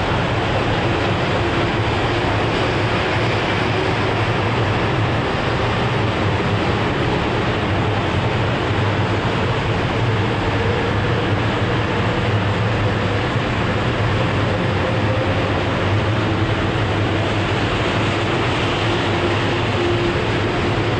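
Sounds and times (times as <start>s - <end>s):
train rumbling past: 0.0s - 20.9s.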